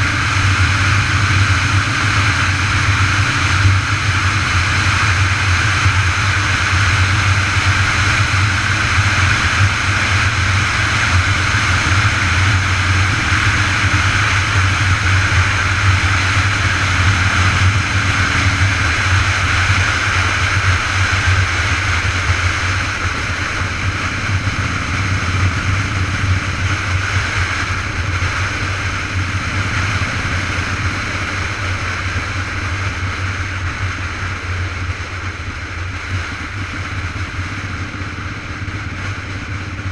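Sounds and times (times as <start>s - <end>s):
low rumble of ride: 0.0s - 39.9s
wind rushing over microphone: 0.0s - 39.9s.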